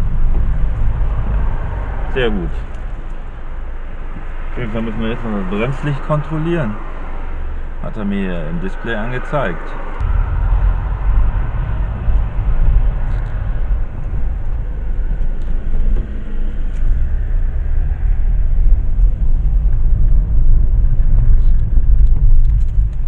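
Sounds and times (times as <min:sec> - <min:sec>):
car cabin road and engine rumble: 0:00.0 - 0:23.0.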